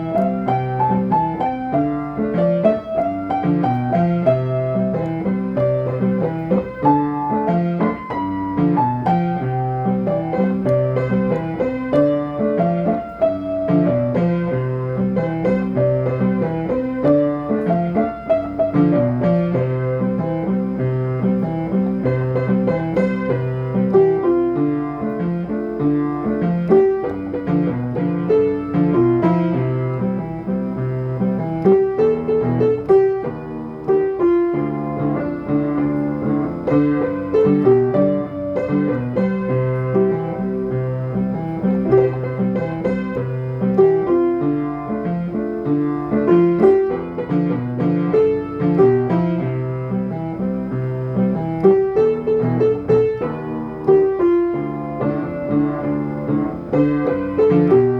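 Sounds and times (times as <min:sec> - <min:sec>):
piano playing a folk tune: 0:00.0 - 0:57.9.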